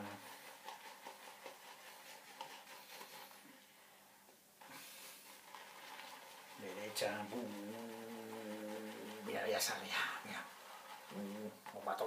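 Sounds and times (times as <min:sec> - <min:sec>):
shaving brush whisking lather: 0:00.0 - 0:03.6, 0:04.6 - 0:12.0.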